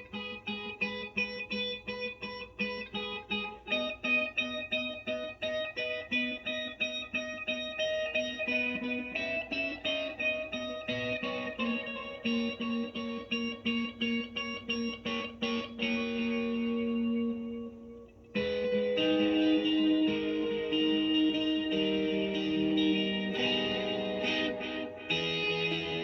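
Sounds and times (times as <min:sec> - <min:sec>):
electric guitar picked pattern: 0:00.0 - 0:26.0.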